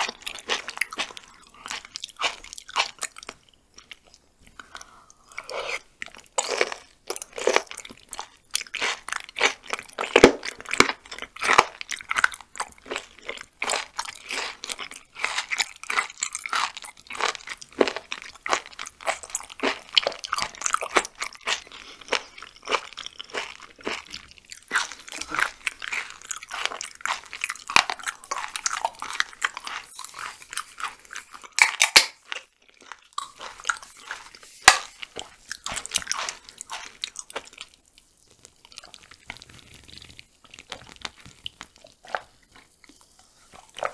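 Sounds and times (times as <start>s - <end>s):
crunchy chewing: 0.0s - 43.9s.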